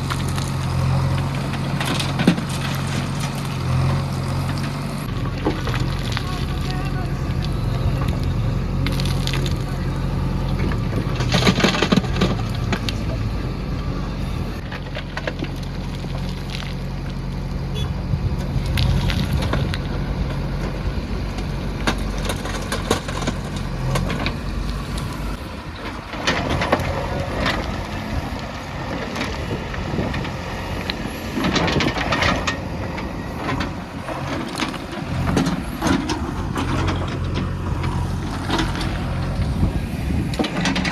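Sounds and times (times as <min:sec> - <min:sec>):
diesel engine running: 0:00.0 - 0:40.9
soil and stones crunching: 0:00.0 - 0:40.9.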